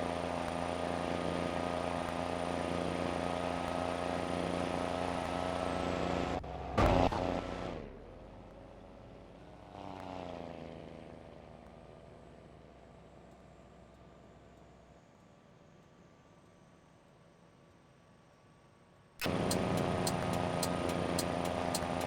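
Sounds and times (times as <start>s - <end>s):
vehicle engine droning: 0.0s - 15.0s, 19.2s - 22.0s.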